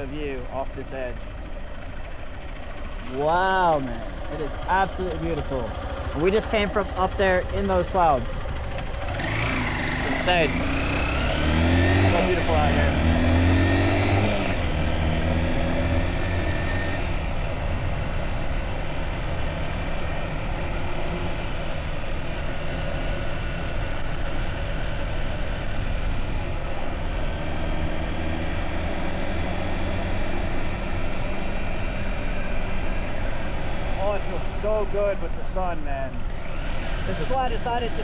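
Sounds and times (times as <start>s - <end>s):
motorbike engine running: 0.0s - 38.0s.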